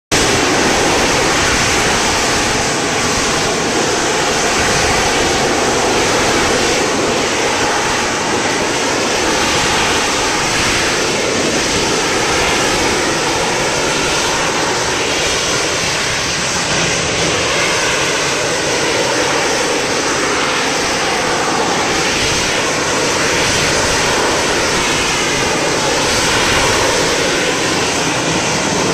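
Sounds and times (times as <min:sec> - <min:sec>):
jet engine running loud: 0:00.1 - 0:28.9.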